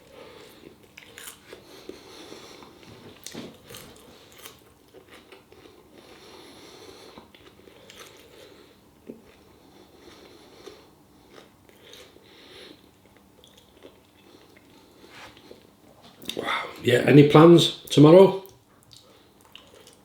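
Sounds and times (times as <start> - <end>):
person chewing crunchy food: 0.0 - 16.5, 18.8 - 20.0.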